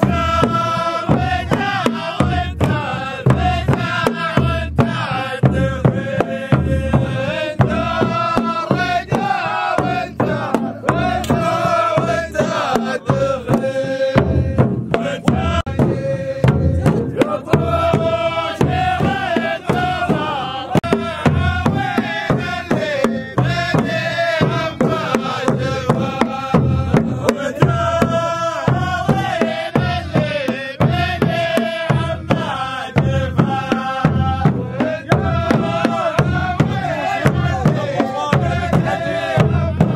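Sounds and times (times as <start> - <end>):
large frame drums beating: 0.0 - 39.9
men chanting in unison: 0.0 - 39.9.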